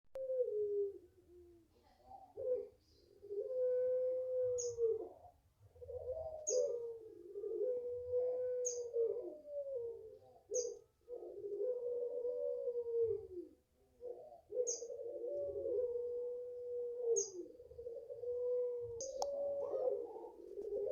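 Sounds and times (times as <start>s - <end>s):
dove cooing: 0.2s - 20.9s.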